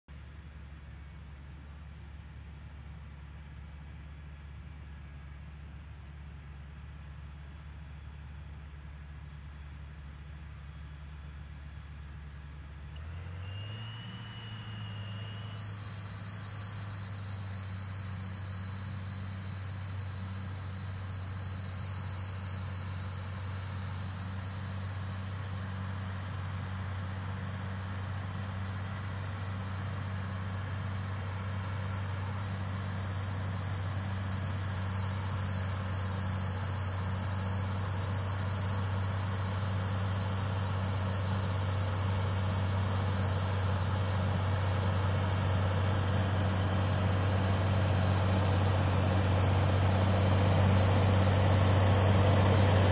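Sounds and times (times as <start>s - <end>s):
steady high whine: 5.0s - 52.9s
vehicle engine humming: 6.1s - 52.9s.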